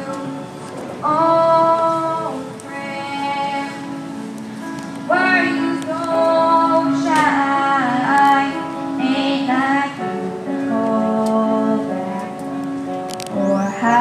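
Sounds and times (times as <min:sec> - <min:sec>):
woman singing pop ballad: 0:00.0 - 0:00.4, 0:01.0 - 0:04.2, 0:05.0 - 0:12.5, 0:13.4 - 0:14.0
instrumental accompaniment: 0:00.0 - 0:14.0.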